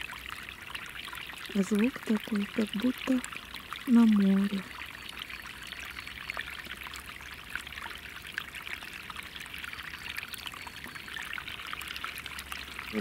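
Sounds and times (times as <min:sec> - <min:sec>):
water rushing and gurgling: 0:00.0 - 0:13.0.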